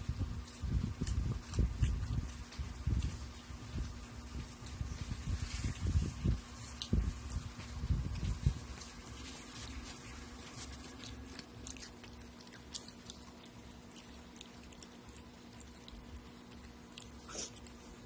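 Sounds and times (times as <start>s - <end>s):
chewing and crunching salad: 0.0s - 18.0s.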